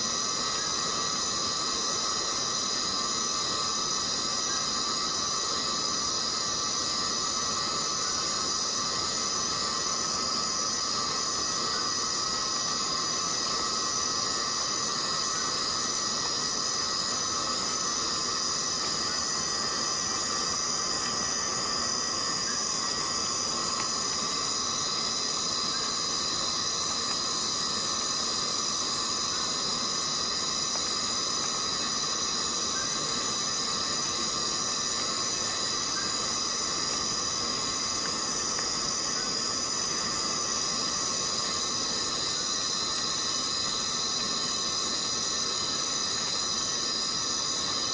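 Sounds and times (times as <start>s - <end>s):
insects buzzing: 0.0s - 47.9s
rain falling steadily: 0.3s - 47.9s.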